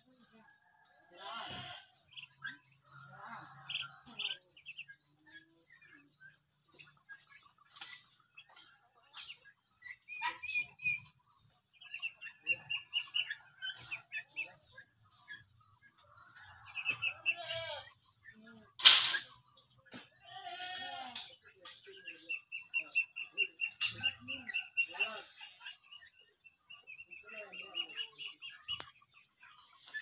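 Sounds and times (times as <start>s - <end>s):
young turkeys peeping and chirping: 0.0s - 30.0s.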